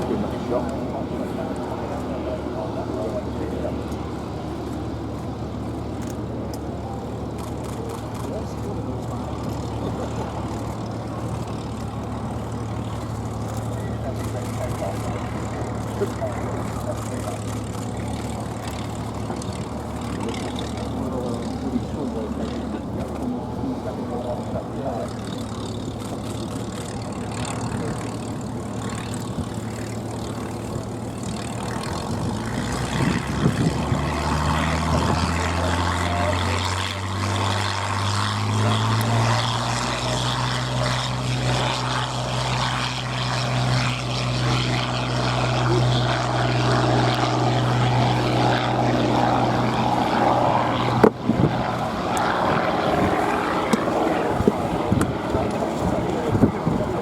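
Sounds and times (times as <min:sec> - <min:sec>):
propeller aircraft engine running: 0:00.0 - 0:57.0.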